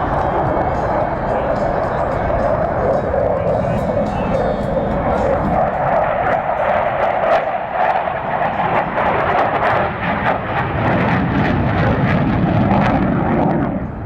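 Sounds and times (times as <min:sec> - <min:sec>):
plane flying over: 0:00.0 - 0:14.0.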